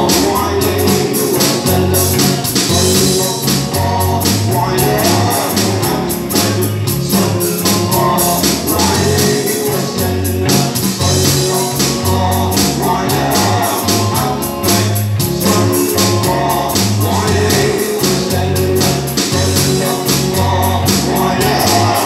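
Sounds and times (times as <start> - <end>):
electric guitars: 0.0 - 22.0
electronic drum beat: 0.0 - 22.0
person singing: 0.0 - 22.0.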